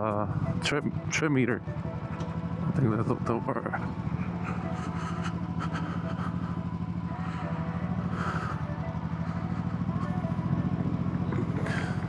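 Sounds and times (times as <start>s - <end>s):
motorcycle engine cruising: 0.0s - 12.0s
road and wind noise: 0.0s - 12.0s.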